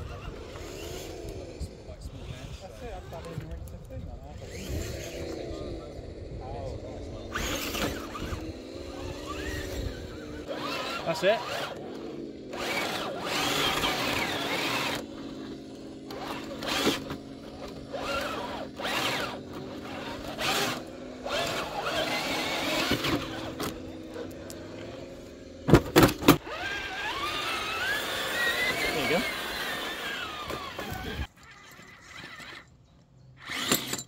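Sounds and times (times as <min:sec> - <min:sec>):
electric motor whining: 0:00.0 - 0:32.7, 0:33.4 - 0:34.0.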